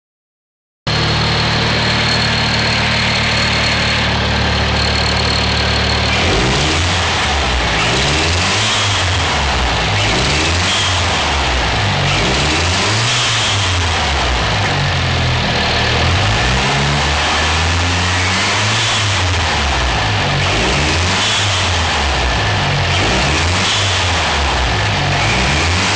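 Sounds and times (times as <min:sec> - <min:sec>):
car engine idling: 0:00.9 - 0:25.9
engine revving: 0:00.9 - 0:25.9.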